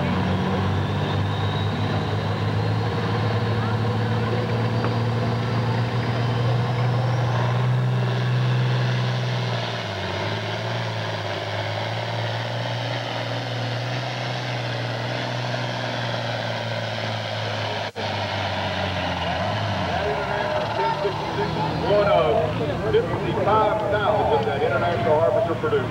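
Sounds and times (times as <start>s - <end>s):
tractor diesel engine running hard: 0.0s - 25.9s.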